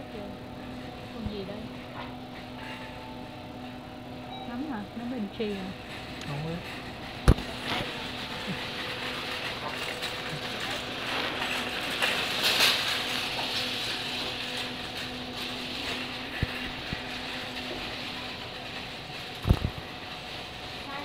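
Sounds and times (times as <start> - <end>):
shopping cart rattling: 0.0 - 21.0
steady low hum: 0.0 - 21.0.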